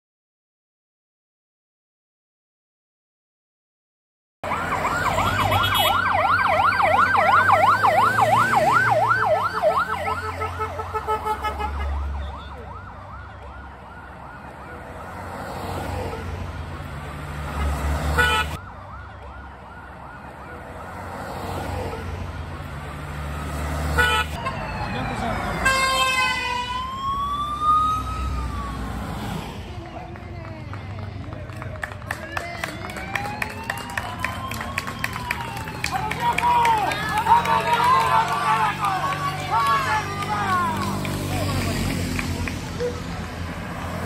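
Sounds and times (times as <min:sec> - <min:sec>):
vehicle siren wailing: 0:04.4 - 0:29.9, 0:31.7 - 0:44.0
car engines running: 0:04.4 - 0:44.0.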